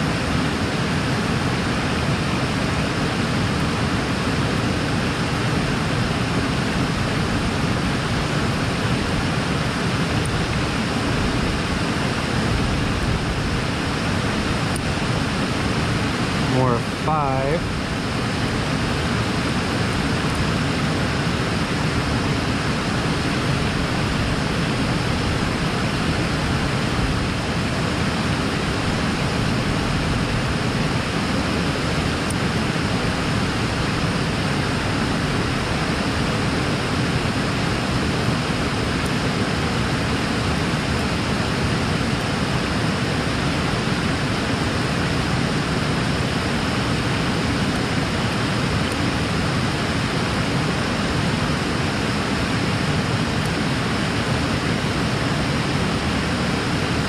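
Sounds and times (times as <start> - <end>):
cascade and river rushing: 0.0 - 57.0.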